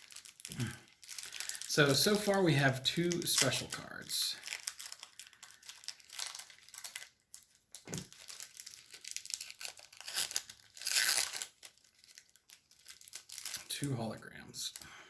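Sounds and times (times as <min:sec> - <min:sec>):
card pack wrapper crinkling and tearing: 0:00.0 - 0:14.8.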